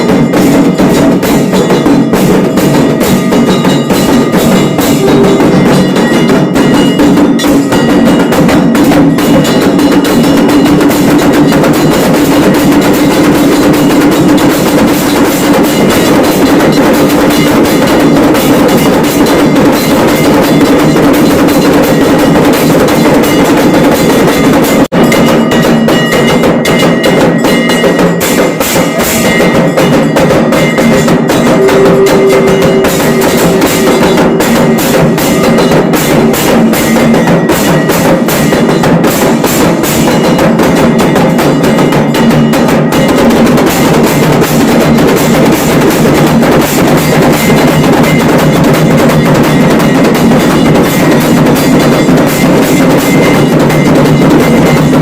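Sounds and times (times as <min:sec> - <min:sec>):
drums beating fast: 0:00.0 - 0:55.0
ringing bells: 0:00.0 - 0:55.0.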